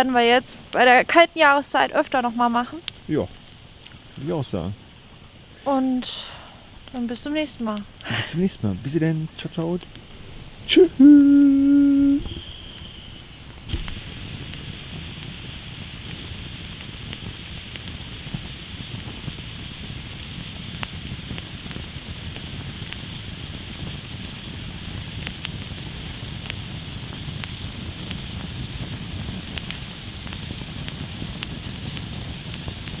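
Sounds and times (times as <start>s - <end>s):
campfire crackling and popping: 0.0s - 33.0s
fire hiss: 0.0s - 33.0s.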